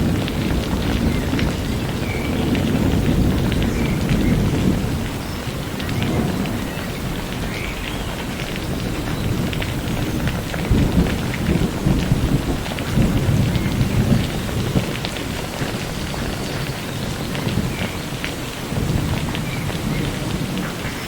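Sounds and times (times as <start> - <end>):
low rumble of thunder: 0.0 - 21.0
rain falling: 0.0 - 21.0.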